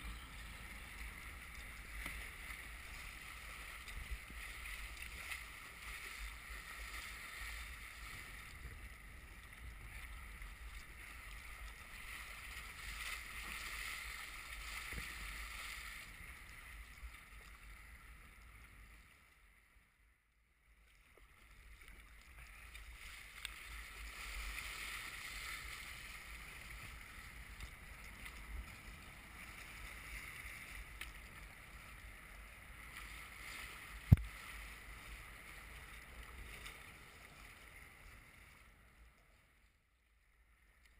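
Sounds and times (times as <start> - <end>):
water splashing against kayak hull: 0.0 - 17.7, 20.9 - 38.4
paddle strokes: 0.0 - 17.8, 20.9 - 38.6.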